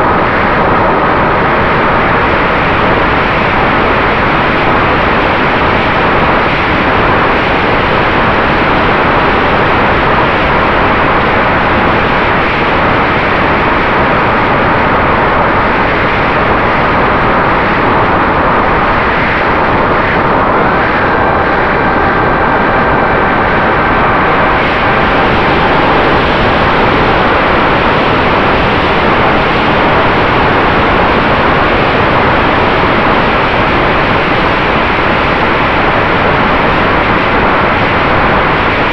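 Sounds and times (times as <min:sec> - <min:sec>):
wind rushing over camera: 0:00.0 - 0:38.9.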